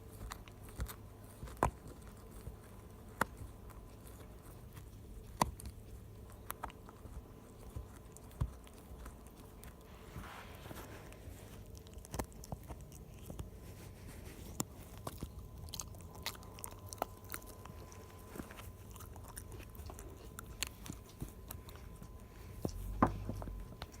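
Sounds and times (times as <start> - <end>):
dog crunching a hard chew: 0.0 - 10.2, 10.9 - 24.0.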